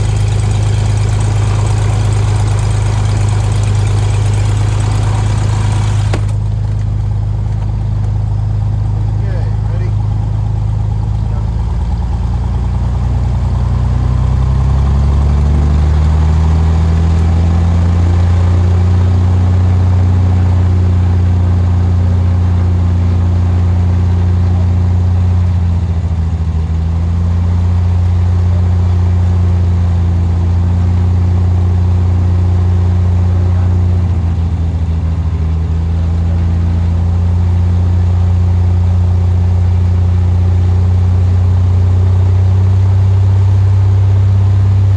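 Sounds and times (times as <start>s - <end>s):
propeller aircraft engine: 0.0s - 44.9s.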